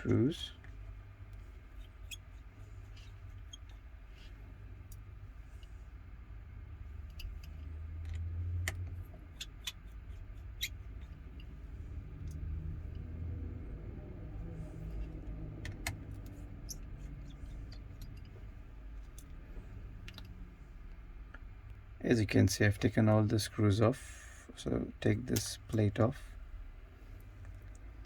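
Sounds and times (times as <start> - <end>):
low background rumble: 0.0 - 28.0.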